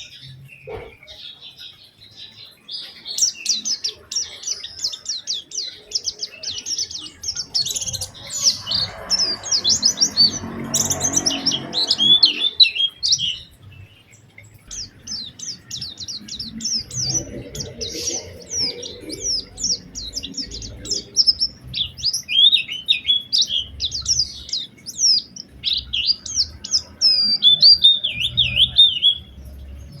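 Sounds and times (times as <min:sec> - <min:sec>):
white-eye singing chirps and trills: 0:00.0 - 0:30.0.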